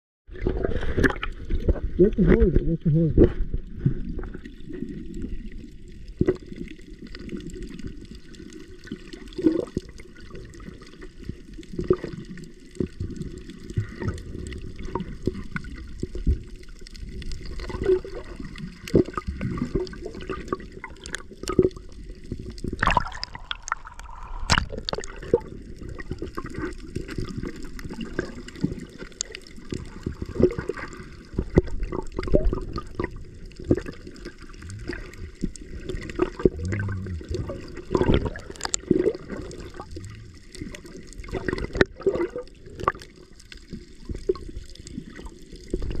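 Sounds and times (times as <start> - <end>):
muffled underwater rush: 0.3 - 46.0
underwater knocks and clicks: 0.3 - 46.0
water swirl: 0.3 - 46.0.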